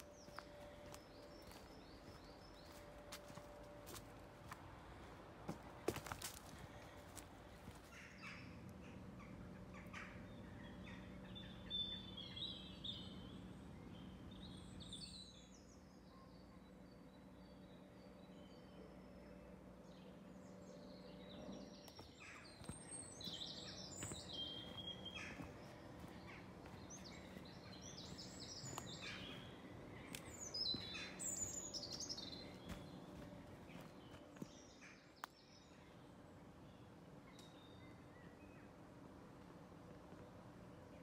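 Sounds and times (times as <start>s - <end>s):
woodland birds singing: 0.0s - 39.0s
faint low hum: 0.0s - 41.0s.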